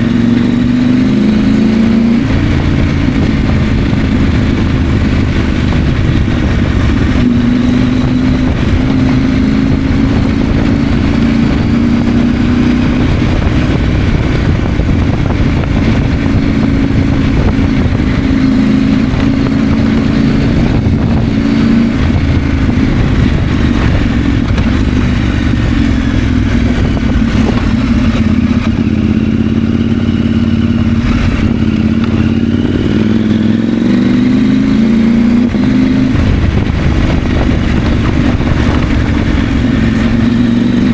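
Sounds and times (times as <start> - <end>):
motorcycle engine running: 0.0 - 40.9
steady low rush: 1.6 - 40.9.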